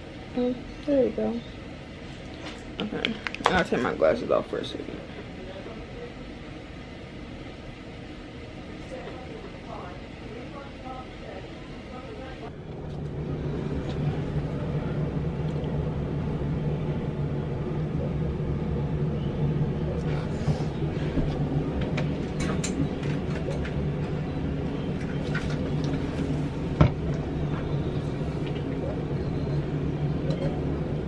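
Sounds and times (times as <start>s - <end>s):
bathroom exhaust fan humming: 0.0s - 31.0s.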